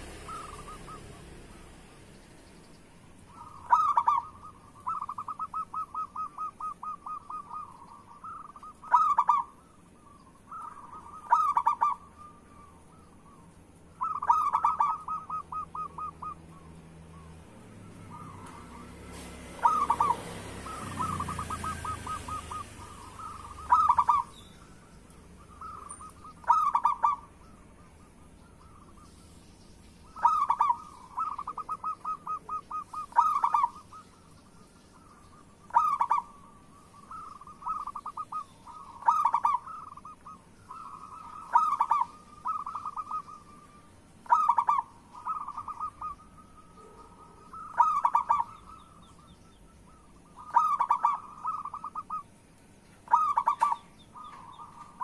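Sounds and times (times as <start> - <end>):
dove cooing: 0.0 - 1.7, 3.2 - 29.4, 30.0 - 52.4, 53.0 - 55.0.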